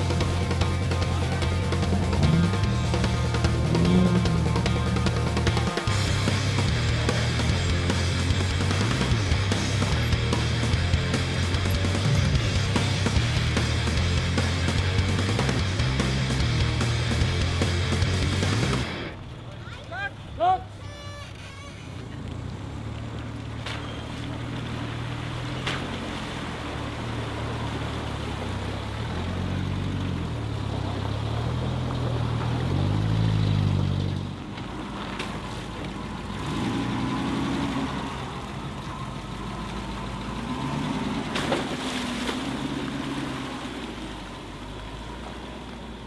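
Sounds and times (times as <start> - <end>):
buggy engine revving: 0.0 - 19.6, 20.2 - 46.0.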